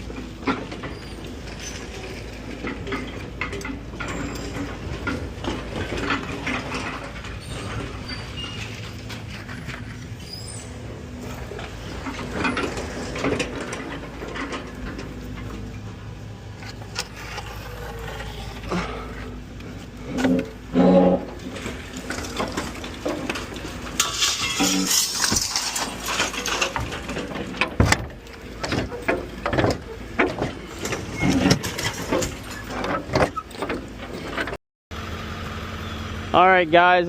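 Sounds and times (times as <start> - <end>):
diesel engine running: 0.0 - 31.2, 34.9 - 37.0
debris clattering and crunching: 0.0 - 34.6.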